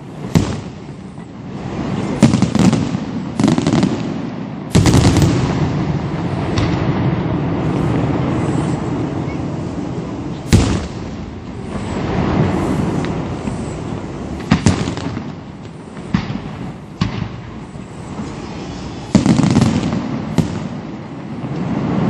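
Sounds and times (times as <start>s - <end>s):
dense crackling firework bursts: 0.0s - 22.0s
fireworks bangs: 0.0s - 22.0s.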